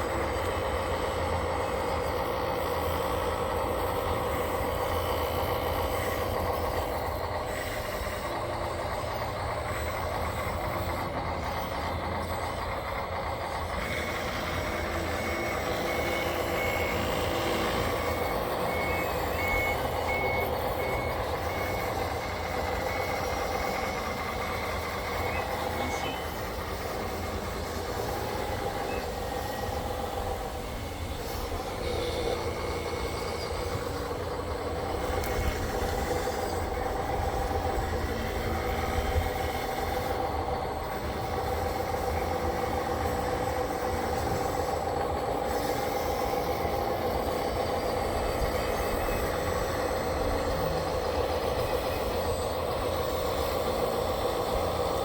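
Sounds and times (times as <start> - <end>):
toy machine mechanical whine: 0.1 - 55.0.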